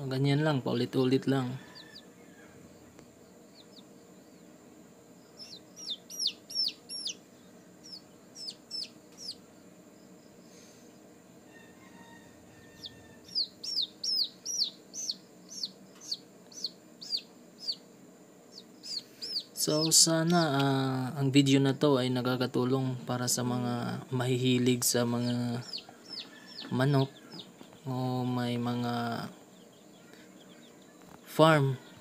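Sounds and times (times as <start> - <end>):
chicks peeping: 0.2 - 21.7, 22.6 - 32.0.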